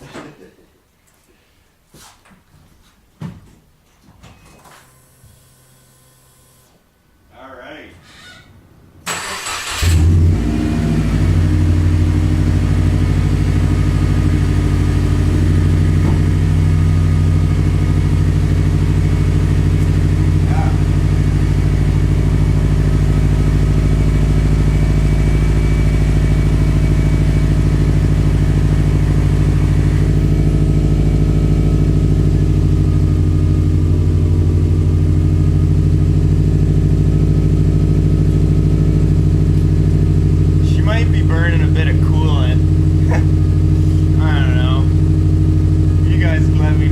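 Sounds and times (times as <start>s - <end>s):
car engine cranking: 9.0s - 46.9s
loud car engine idling: 9.2s - 46.9s.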